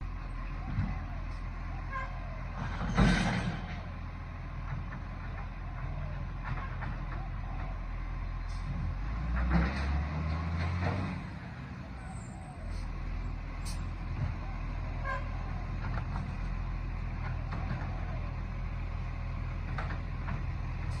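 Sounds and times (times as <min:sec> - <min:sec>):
garbage truck engine rumbling: 0:00.0 - 0:21.0.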